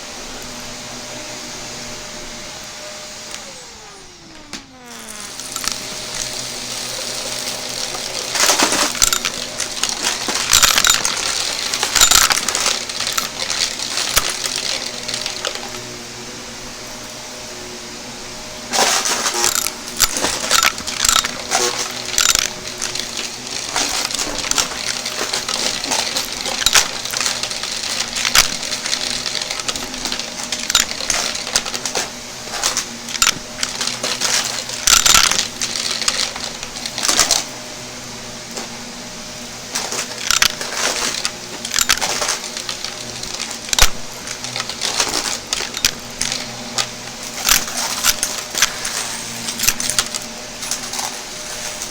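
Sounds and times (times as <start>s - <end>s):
vacuum cleaner running: 0.0s - 51.9s
debris crackling and rattling: 4.3s - 16.0s, 18.7s - 37.6s, 39.5s - 51.9s.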